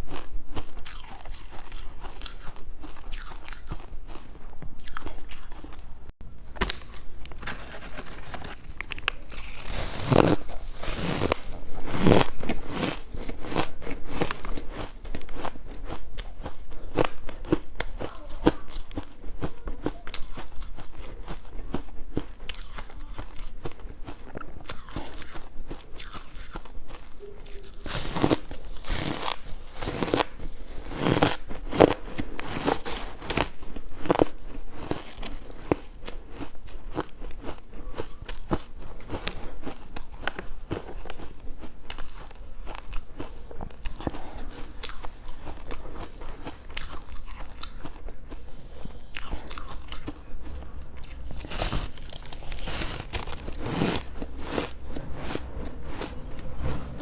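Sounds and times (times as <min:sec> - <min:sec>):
person crunching ice: 0:06.6 - 0:57.0.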